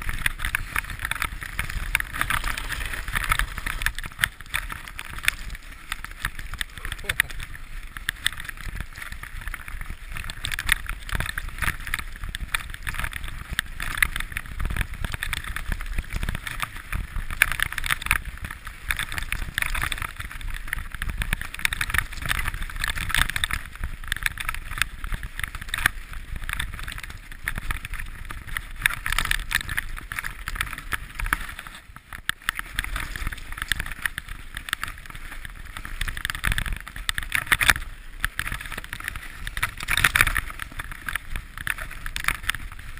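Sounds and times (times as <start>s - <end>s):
bike rattling and knocking: 0.0s - 42.9s
bike tyres on loose stones: 0.0s - 42.9s.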